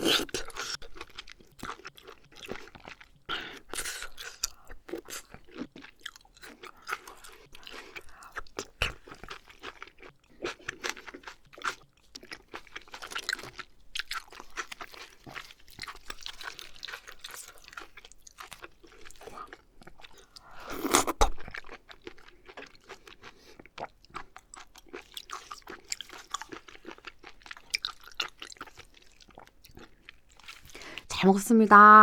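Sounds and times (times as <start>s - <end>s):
person chewing oysters: 0.0s - 31.1s.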